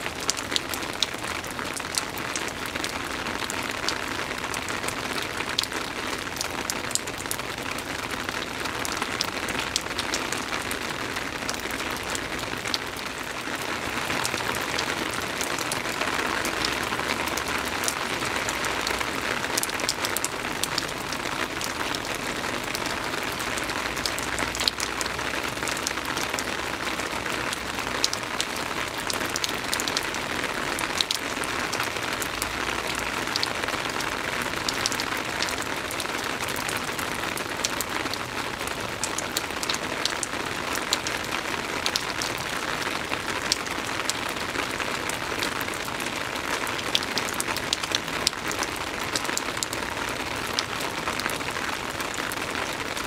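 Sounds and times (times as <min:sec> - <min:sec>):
soft rain hiss: 0:00.0 - 0:53.0
raindrops ticking: 0:00.1 - 0:53.0.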